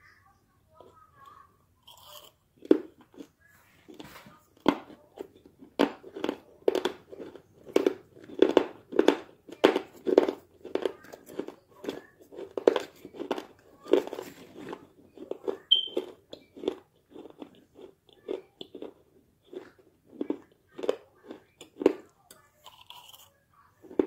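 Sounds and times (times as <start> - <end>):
chewing crunchy clay: 1.8 - 24.0.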